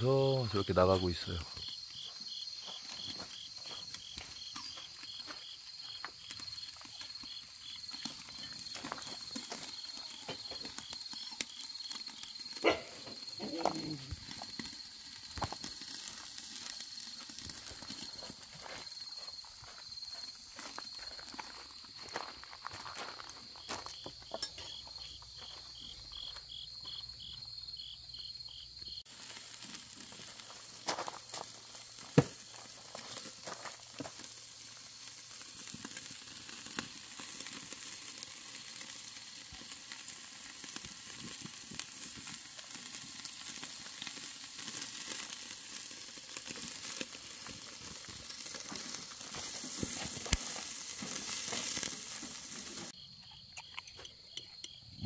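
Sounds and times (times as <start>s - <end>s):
meat sizzling on a grill: 0.0s - 22.2s, 27.5s - 53.0s
insects chirping: 0.0s - 55.0s.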